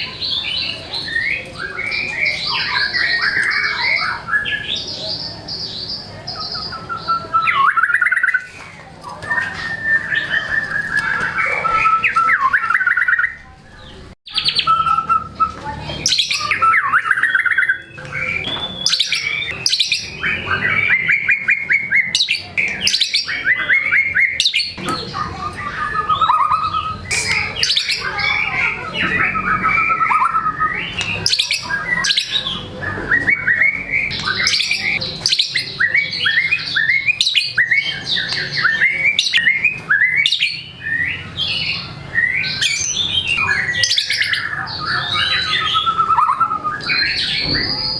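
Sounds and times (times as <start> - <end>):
songbird singing with trills: 0.0 - 8.5, 9.2 - 47.9.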